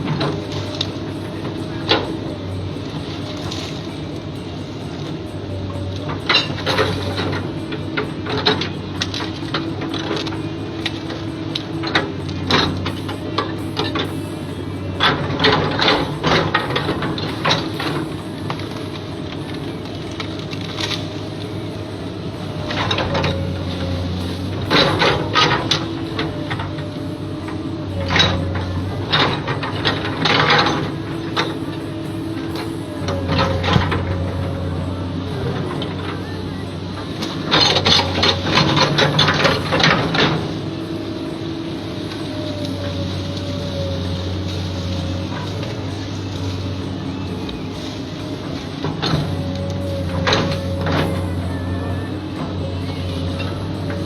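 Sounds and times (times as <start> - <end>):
excavator engine humming: 0.0 - 54.0
hydraulic whine: 0.0 - 54.0.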